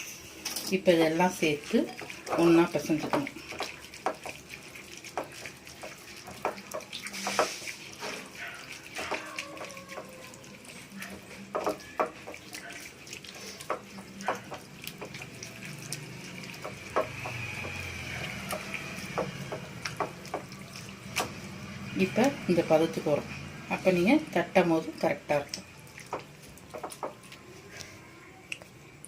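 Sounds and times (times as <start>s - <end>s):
hands squelching wet batter: 1.0s - 23.1s, 23.8s - 27.9s.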